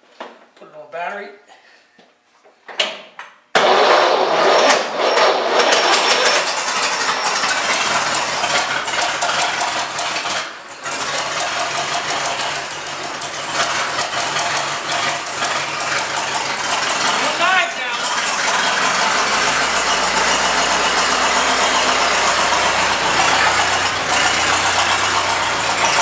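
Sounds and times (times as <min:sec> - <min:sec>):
old car engine running loud: 0:03.6 - 0:26.0.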